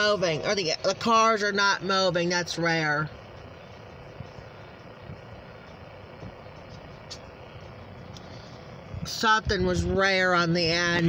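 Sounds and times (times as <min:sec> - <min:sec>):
faint vehicle engine and traffic: 0:00.0 - 0:11.0.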